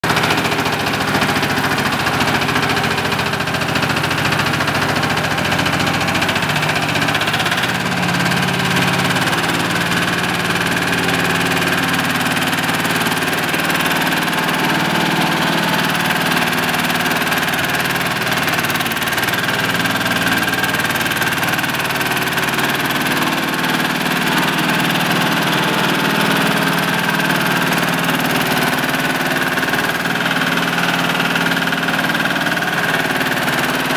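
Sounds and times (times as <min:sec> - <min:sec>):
road roller engine running: 0:00.0 - 0:33.9.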